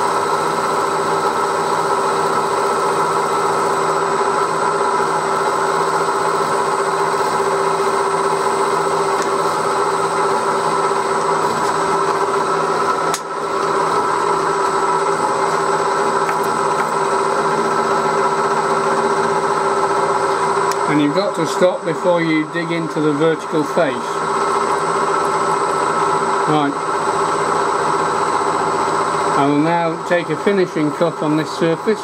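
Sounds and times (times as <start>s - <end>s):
milling machine cutting metal: 0.0s - 32.0s.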